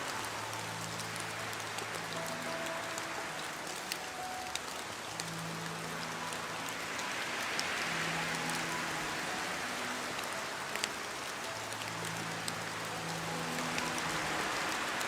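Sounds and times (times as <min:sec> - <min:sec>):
raindrop ticks: 0:00.0 - 0:15.0
steady rain hiss: 0:00.0 - 0:15.0.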